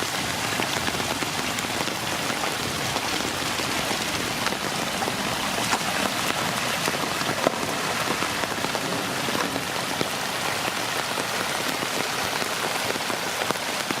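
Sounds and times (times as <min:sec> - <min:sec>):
rain spattering on hard surfaces: 0:00.0 - 0:14.0
raindrop splashes: 0:00.0 - 0:14.0.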